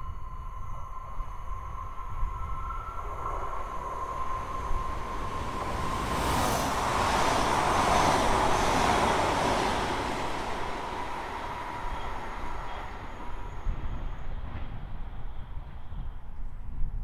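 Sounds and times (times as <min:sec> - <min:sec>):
train rushing past: 0:00.0 - 0:16.4.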